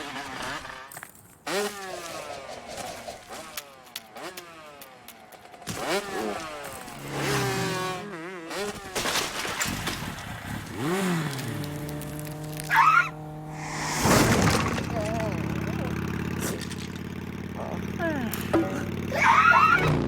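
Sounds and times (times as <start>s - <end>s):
cartoon motorcycle engine revving: 0.0s - 20.0s.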